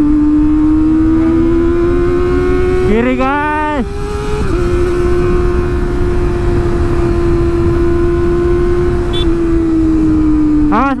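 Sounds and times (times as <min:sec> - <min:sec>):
wind on microphone: 0:00.0 - 0:10.7
motorcycle engine at high revs: 0:00.0 - 0:11.0.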